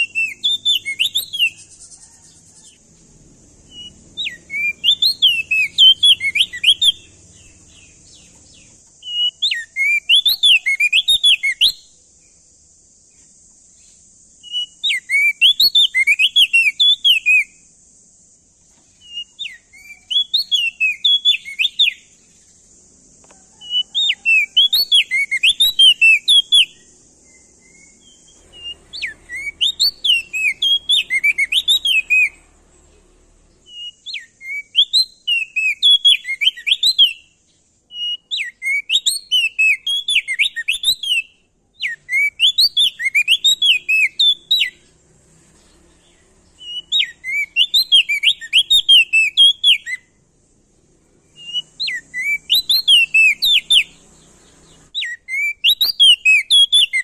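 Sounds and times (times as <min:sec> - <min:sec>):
bird singing warbling chirps: 0:00.0 - 0:50.2, 0:51.1 - 0:57.0.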